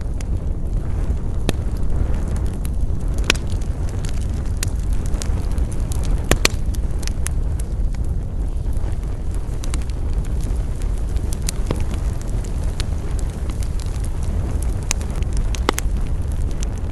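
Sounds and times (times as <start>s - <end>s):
campfire crackling and popping: 0.0s - 16.9s
steady low rumble: 0.0s - 16.9s.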